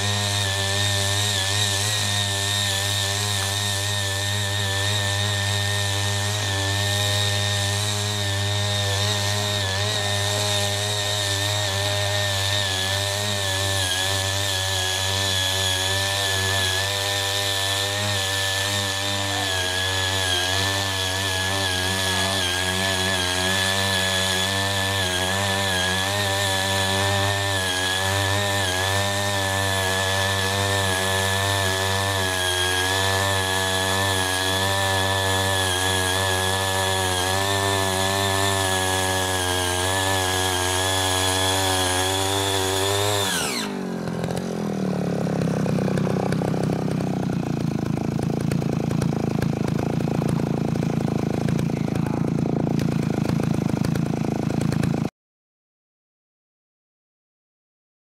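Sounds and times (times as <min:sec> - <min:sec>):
mini tiller engine running: 0:00.0 - 0:55.1.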